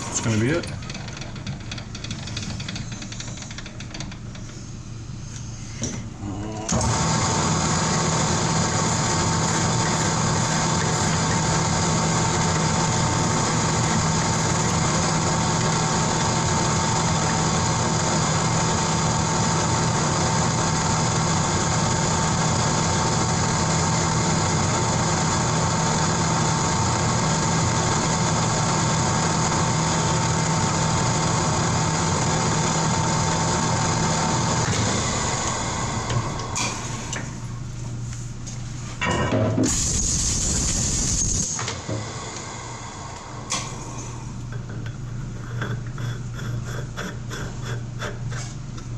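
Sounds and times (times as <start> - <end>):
shop machine whining: 0.0 - 48.9.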